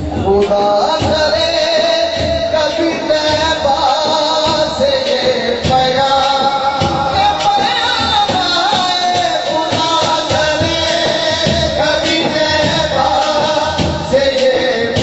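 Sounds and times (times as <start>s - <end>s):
man singing into microphone: 0.0s - 15.0s
percussion beat: 0.0s - 15.0s.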